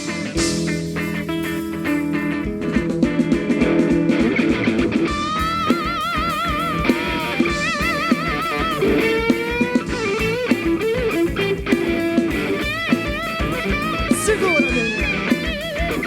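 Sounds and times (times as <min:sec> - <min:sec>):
electric lead guitar with vibrato: 0:00.0 - 0:16.0
steady drum beat: 0:00.0 - 0:16.0.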